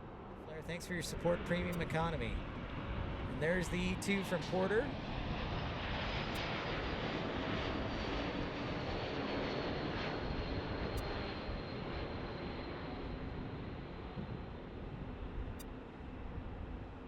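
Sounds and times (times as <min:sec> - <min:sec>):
high jet engine whine: 0:00.0 - 0:17.0
jet engine rushing noise: 0:00.5 - 0:15.0.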